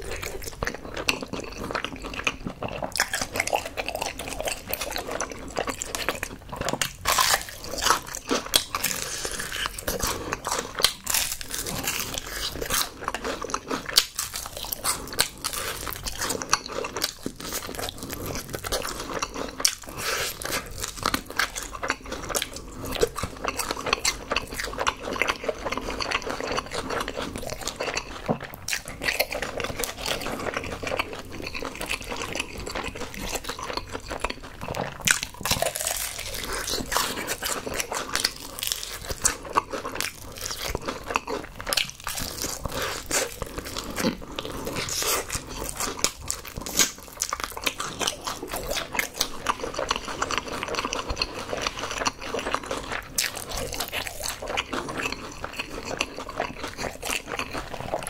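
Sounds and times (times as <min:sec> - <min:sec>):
crunching fried chicken: 0:00.0 - 0:58.0.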